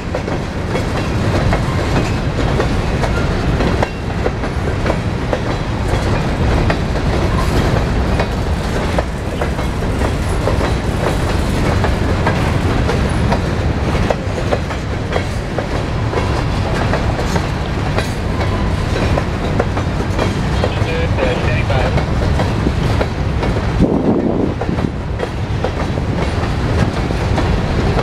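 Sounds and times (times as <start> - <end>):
freight train rolling past: 0.0 - 28.0
wheels clacking over rail joints: 0.0 - 28.0.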